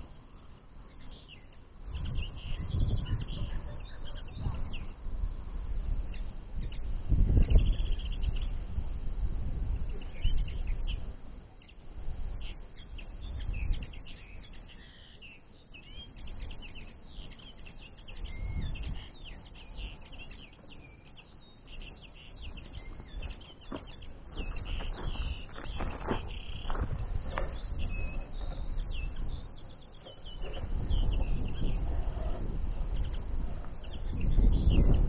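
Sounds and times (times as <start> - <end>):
songbird twittering: 0.0 - 9.0, 9.7 - 35.0
low rumbling noise: 0.0 - 14.9, 15.5 - 35.0.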